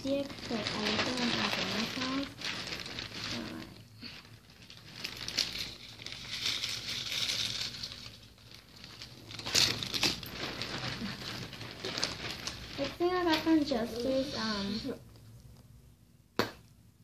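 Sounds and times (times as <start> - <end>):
bags and clothing rustling: 0.0 - 14.9.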